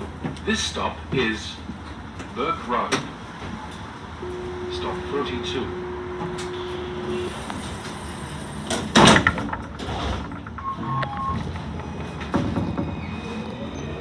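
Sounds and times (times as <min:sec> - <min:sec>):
tram cabin noise: 0:00.0 - 0:14.0.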